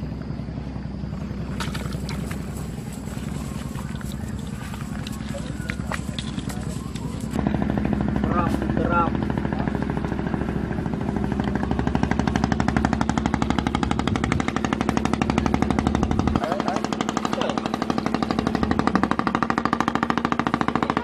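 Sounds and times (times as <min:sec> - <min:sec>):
small engine rattling: 0:00.0 - 0:21.0.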